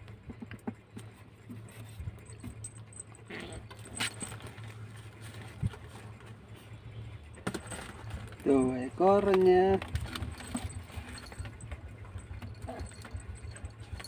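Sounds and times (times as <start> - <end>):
paws tapping and scuffling: 0.0 - 6.7, 7.4 - 14.0
steady low hum: 0.0 - 14.0.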